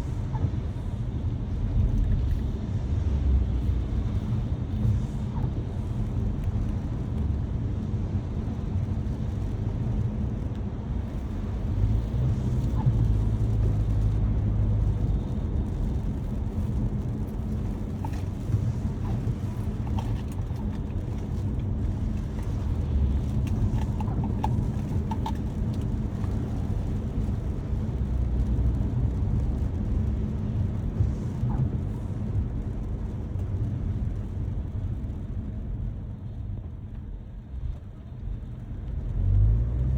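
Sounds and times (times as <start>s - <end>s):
car driving on wet road: 0.0s - 39.9s.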